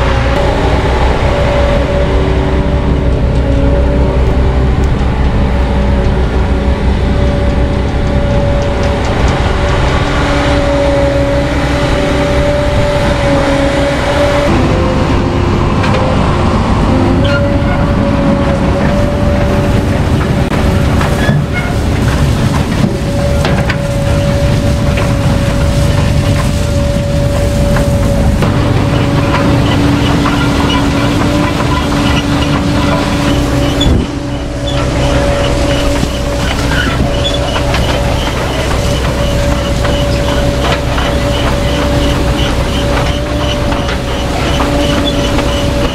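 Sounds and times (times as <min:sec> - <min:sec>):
harvester machine whine: 0:00.0 - 0:45.9.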